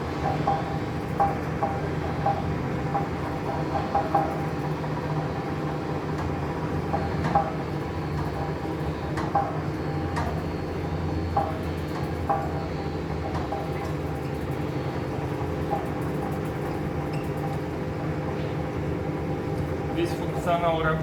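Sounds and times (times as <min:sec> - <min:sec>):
coating drum motor hum: 0:00.0 - 0:21.0.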